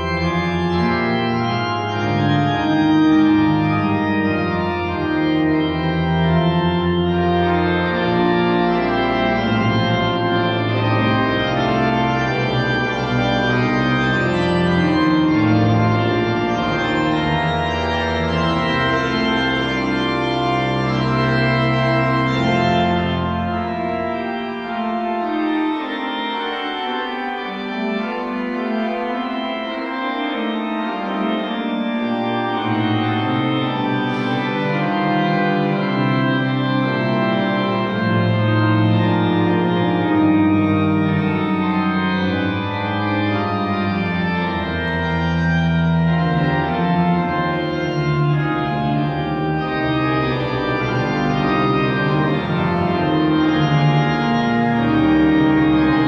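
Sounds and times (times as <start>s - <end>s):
church organ playing: 0.0s - 56.0s.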